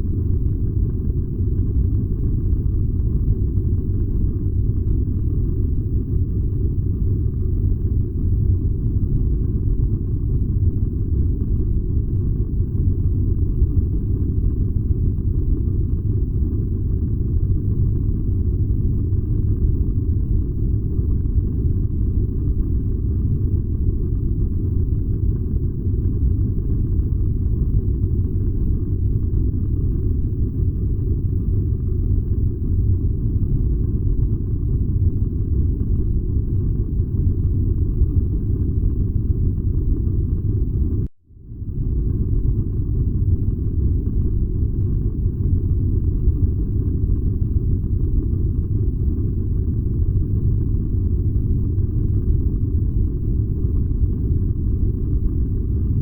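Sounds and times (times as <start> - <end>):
furnace burning rumble: 0.0 - 56.0.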